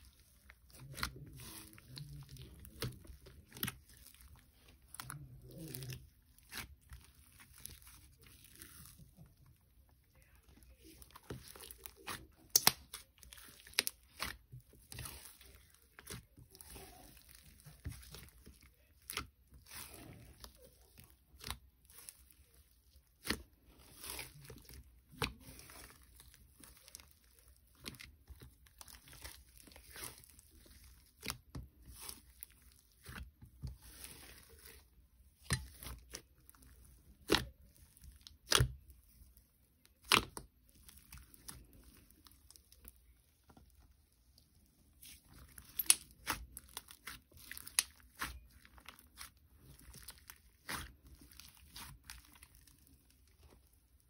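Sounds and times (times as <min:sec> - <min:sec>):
slime squished by hand: 0:00.0 - 0:54.0.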